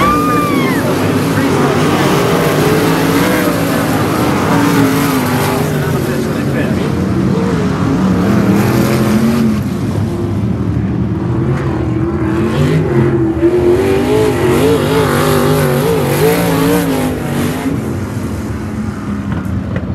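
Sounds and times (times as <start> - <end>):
race car engines passing: 0.0 - 19.9.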